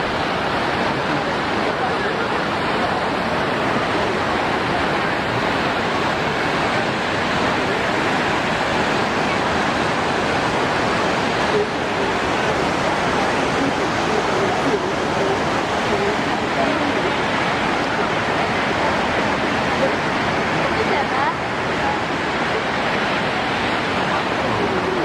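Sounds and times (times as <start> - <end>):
loud rushing water: 0.0 - 25.0.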